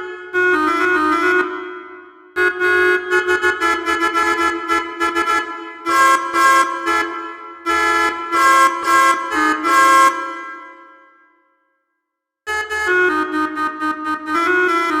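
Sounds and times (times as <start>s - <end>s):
musical bus horn playing a tune: 0.0s - 11.3s, 12.5s - 15.0s.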